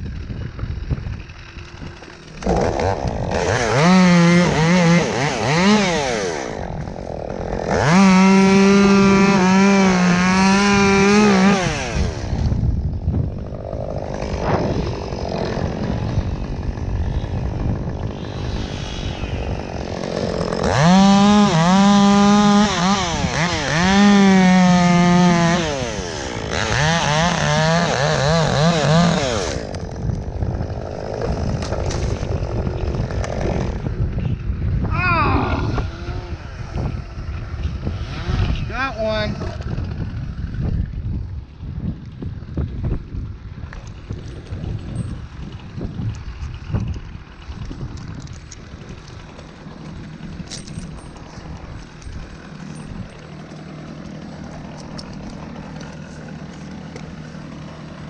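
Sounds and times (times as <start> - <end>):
chainsaw cutting wood: 0.0 - 34.8, 35.4 - 58.0.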